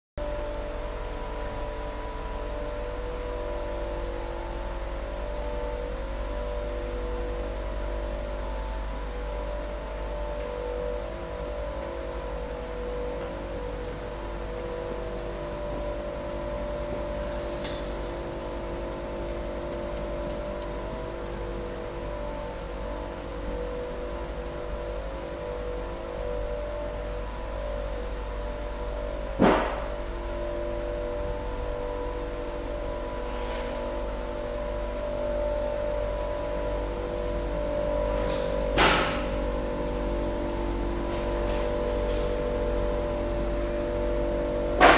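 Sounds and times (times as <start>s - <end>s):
machine hum with steady tones: 0.2s - 44.9s.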